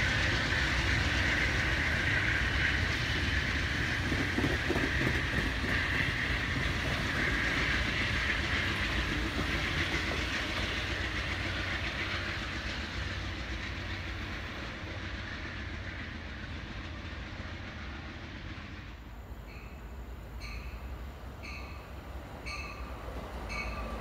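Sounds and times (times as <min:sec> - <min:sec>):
passenger train passing on rails: 0:00.0 - 0:24.0.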